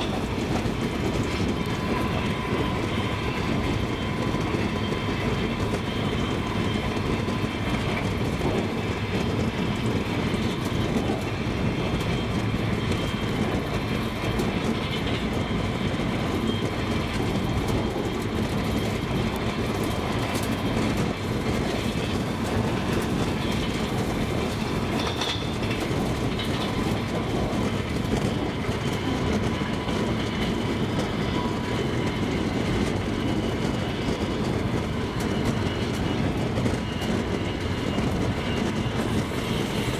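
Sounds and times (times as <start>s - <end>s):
train rumbling: 0.0s - 39.9s
train wheels knocking on rails: 0.0s - 39.9s.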